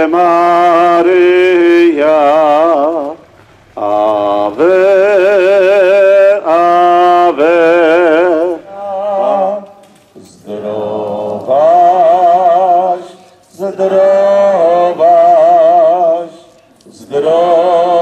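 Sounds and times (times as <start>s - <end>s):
liturgical chant in long held notes: 0.0s - 18.0s.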